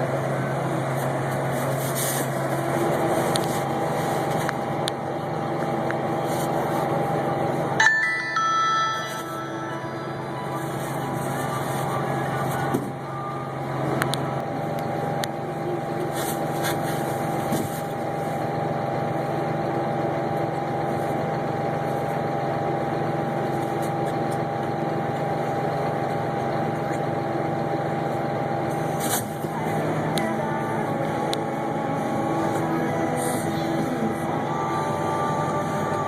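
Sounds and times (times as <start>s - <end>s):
combine harvester engine running: 0.0s - 36.0s.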